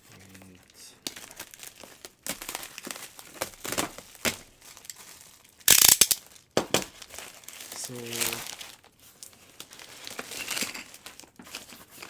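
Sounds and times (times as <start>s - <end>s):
plastic bag crinkling and rustling: 0.0s - 12.0s.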